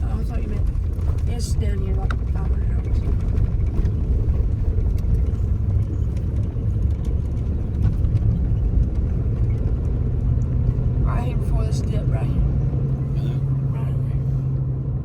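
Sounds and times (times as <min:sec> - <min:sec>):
truck engine rumble: 0:00.0 - 0:15.0
tyres on road: 0:00.0 - 0:15.0.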